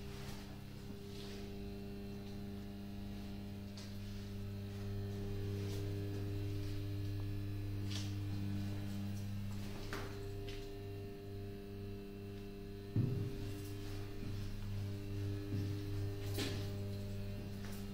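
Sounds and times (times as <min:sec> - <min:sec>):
elevator hoist electrical hum: 0:00.0 - 0:17.9.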